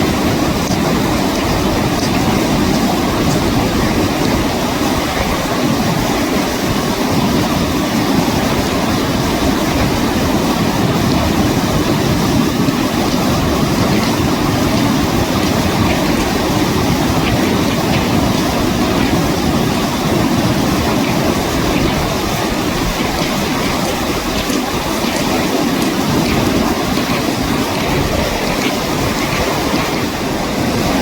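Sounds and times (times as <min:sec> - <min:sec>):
fast river rushing: 0:00.0 - 0:31.0.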